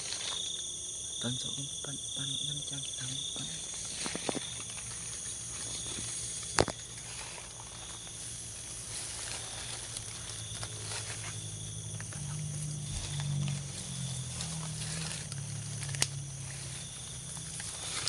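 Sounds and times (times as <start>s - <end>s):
high-pitched insect buzz: 0.0s - 18.0s.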